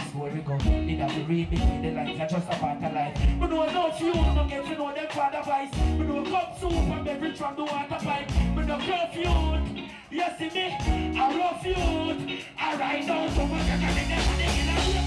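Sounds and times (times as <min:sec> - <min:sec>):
heavy bass notes: 0:00.0 - 0:04.6, 0:05.3 - 0:15.0
live reggae band playing: 0:00.0 - 0:15.0
man singing: 0:00.0 - 0:15.0.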